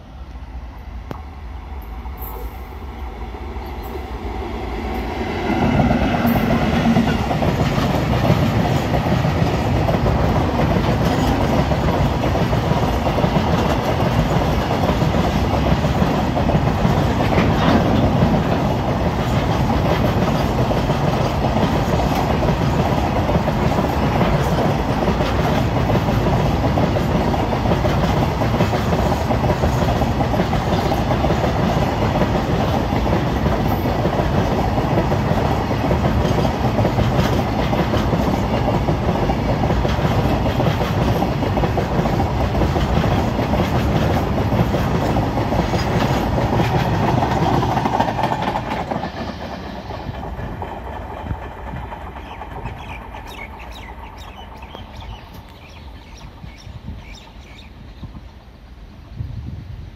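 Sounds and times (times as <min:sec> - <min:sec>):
freight train passing: 0:00.0 - 0:59.9
wheels clacking on rails: 0:03.6 - 0:58.5.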